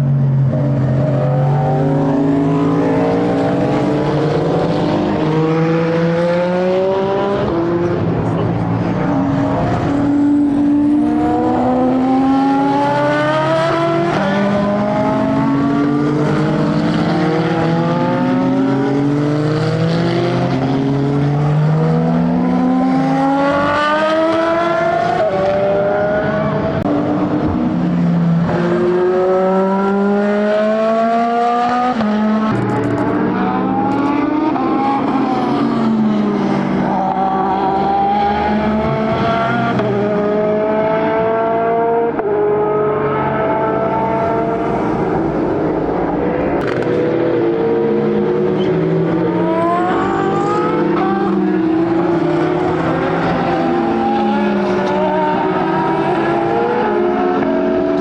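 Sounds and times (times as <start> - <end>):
racing cars accelerating past: 0.1 - 58.0.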